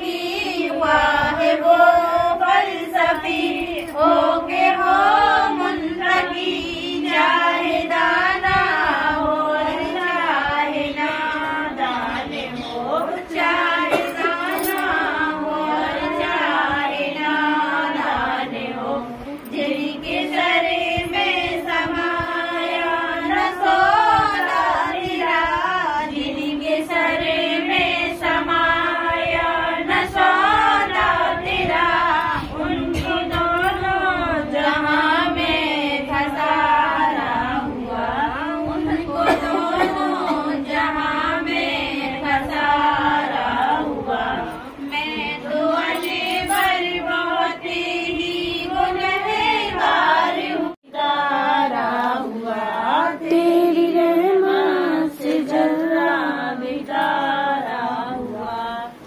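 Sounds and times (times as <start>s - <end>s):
women chanting in unison: 0.0s - 59.0s.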